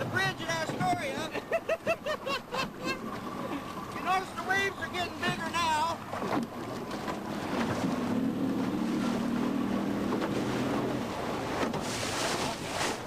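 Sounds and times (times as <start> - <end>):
motorboat engine droning: 0.0 - 13.0
water noise: 0.0 - 13.0.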